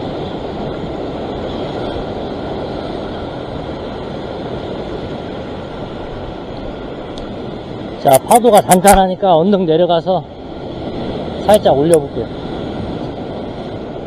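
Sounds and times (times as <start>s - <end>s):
surf washing over rocky shore: 0.0s - 14.0s.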